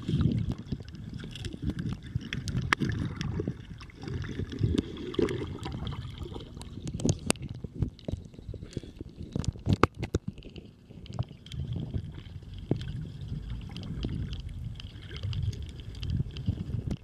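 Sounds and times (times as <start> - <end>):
churning water underwater: 0.0 - 17.0
underwater clicks and crackles: 0.0 - 17.0.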